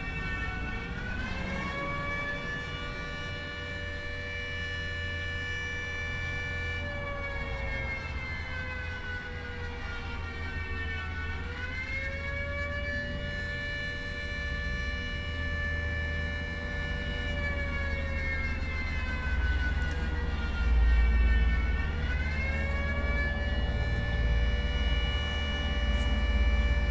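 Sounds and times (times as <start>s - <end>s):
warning siren: 0.0s - 26.9s.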